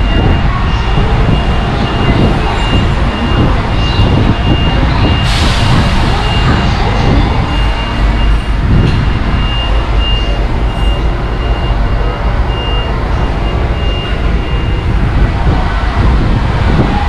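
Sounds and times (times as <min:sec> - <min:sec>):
high-pitched beeps: 0:00.0 - 0:05.4, 0:06.2 - 0:14.9
truck engine rumbling: 0:00.0 - 0:17.0.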